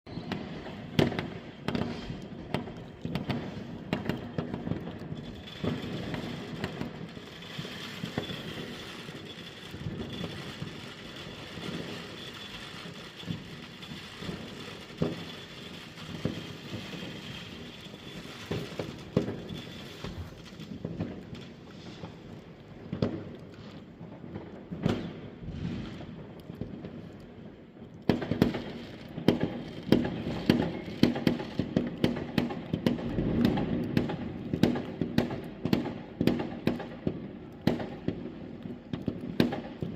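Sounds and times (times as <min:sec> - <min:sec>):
firework bangs: 0:00.1 - 0:39.9
fireworks crackling: 0:00.1 - 0:39.9.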